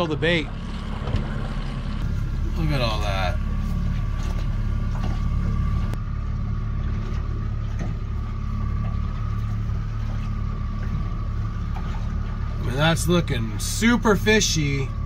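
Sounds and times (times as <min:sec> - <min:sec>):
boat engine humming with whine: 0:00.0 - 0:15.0.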